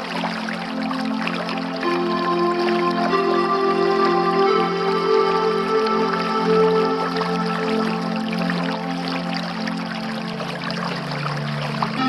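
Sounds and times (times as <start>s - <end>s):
calm new-age music: 0.0s - 12.0s
water dripping and trickling: 0.0s - 12.0s.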